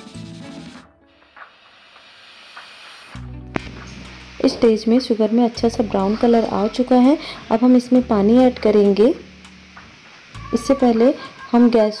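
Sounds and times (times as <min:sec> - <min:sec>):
background music: 0:00.0 - 0:01.9, 0:03.1 - 0:12.0
sugar hissing in a pan: 0:01.2 - 0:12.0.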